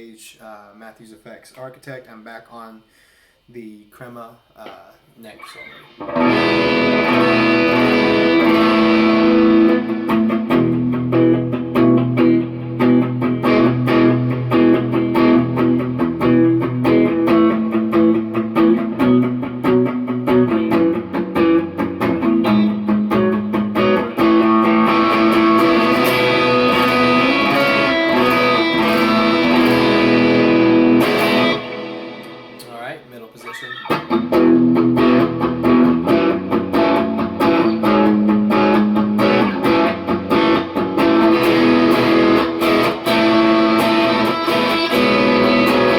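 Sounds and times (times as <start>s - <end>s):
overdriven electric guitar: 4.6s - 45.9s.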